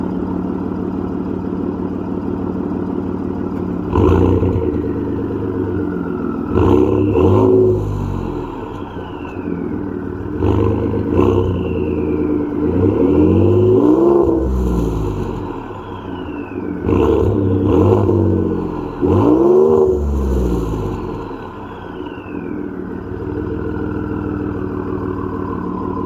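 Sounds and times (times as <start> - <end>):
truck engine idling and revving: 0.0 - 26.0
turbo whistle: 4.0 - 26.0.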